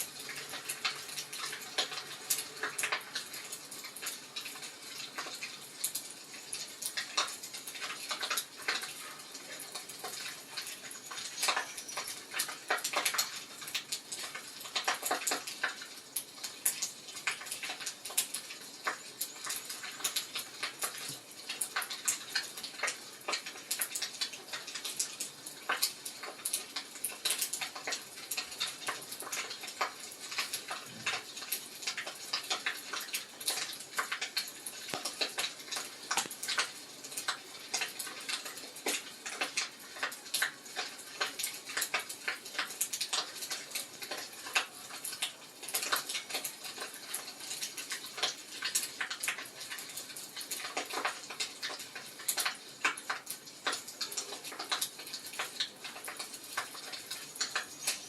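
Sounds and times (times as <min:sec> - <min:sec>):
fireplace fire crackling: 0:00.0 - 0:58.0.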